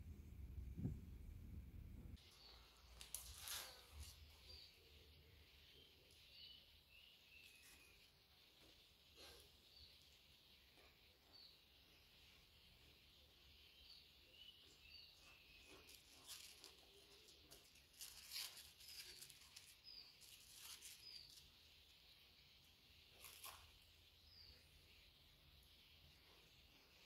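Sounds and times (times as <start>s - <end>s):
small birds chirping: 2.1s - 27.0s.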